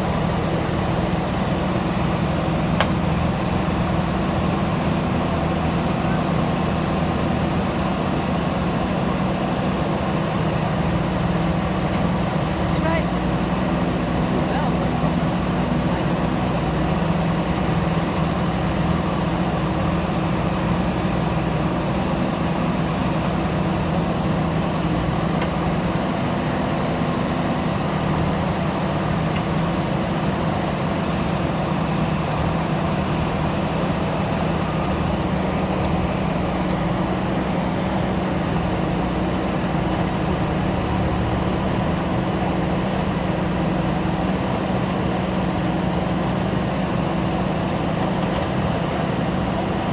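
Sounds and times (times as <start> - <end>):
backhoe diesel engine running: 0.0 - 49.9.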